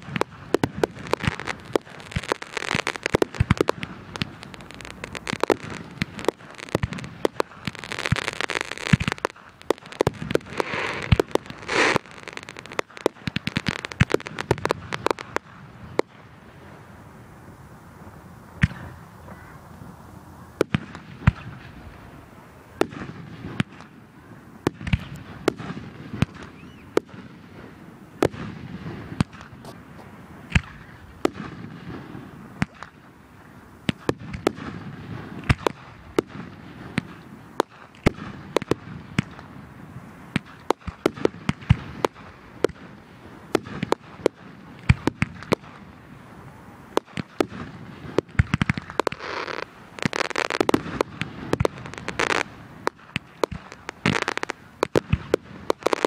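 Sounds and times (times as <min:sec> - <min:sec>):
fireworks bangs and pops: 0:00.0 - 0:16.9, 0:18.6 - 0:19.5, 0:20.6 - 0:56.0.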